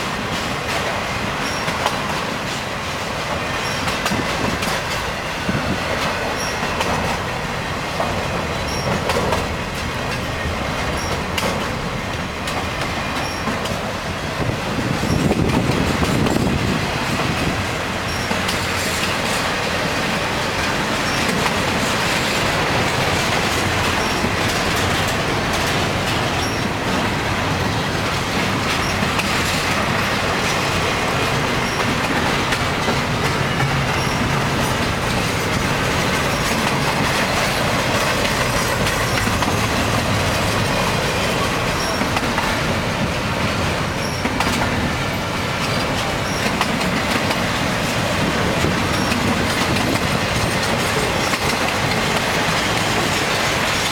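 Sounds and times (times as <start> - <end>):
freight train rumbling past: 0.0 - 53.9
wheels clattering on rails: 0.0 - 53.9.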